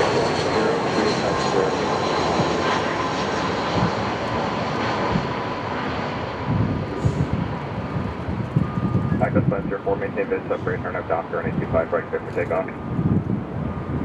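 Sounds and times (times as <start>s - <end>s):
jet airliner engines whining: 0.0s - 14.0s.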